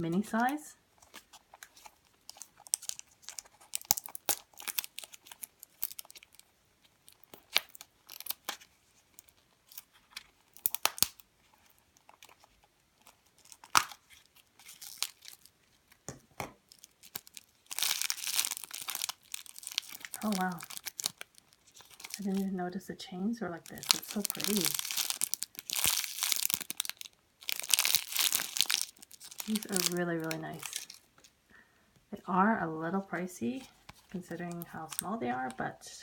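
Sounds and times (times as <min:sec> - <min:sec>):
plastic packaging crinkling: 0:00.0 - 0:31.4, 0:33.0 - 0:35.6.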